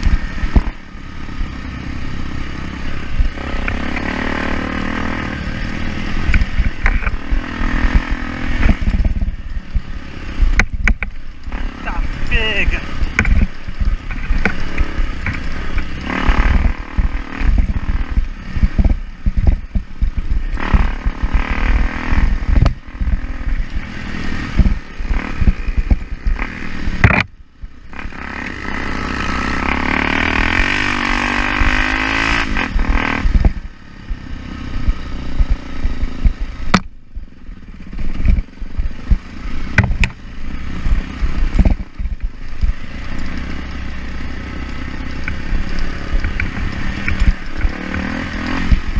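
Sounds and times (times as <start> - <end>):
motorcycle engine: 0.0 - 48.9.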